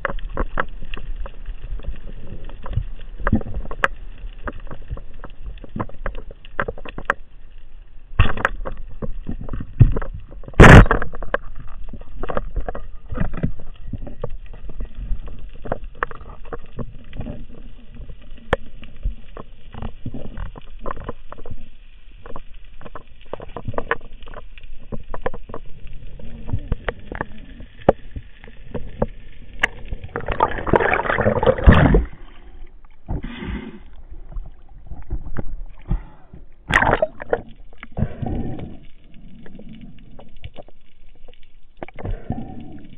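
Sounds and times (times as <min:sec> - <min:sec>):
bubbles and water rushing: 0:00.0 - 0:07.2, 0:08.2 - 0:42.9.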